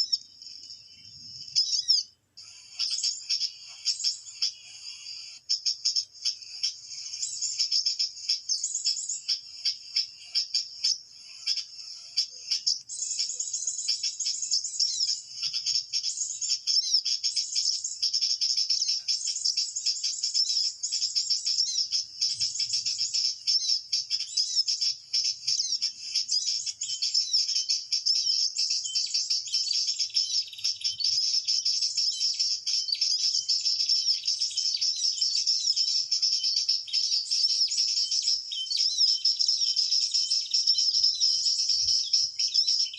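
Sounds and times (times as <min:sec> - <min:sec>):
bird chirping from speaker: 0:00.0 - 0:42.9.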